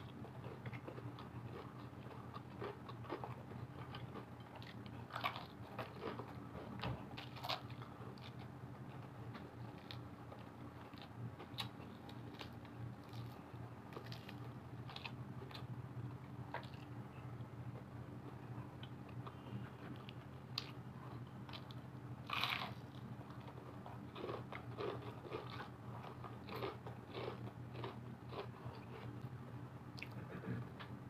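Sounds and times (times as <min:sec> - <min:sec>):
chewing crunchy fried chicken: 0:00.0 - 0:30.6.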